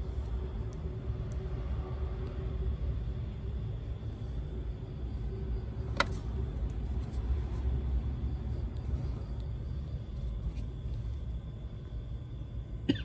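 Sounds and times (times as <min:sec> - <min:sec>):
faint hum: 0:00.0 - 0:13.0
low rumbling background noise: 0:00.0 - 0:13.0.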